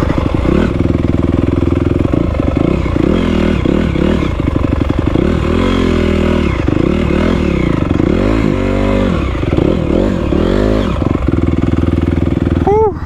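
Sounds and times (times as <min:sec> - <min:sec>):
dirt bike engine revving: 0:00.0 - 0:12.8
bike rattling and scraping: 0:00.0 - 0:13.0.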